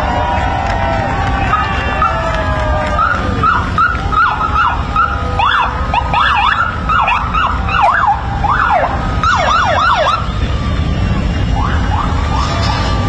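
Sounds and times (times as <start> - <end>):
police motorcycle sirens yelping: 0.0 - 13.0.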